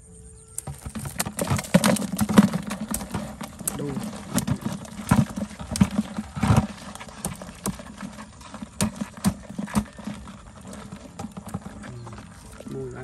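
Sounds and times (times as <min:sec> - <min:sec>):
bamboo trap knocking and rattling: 0:00.6 - 0:12.7.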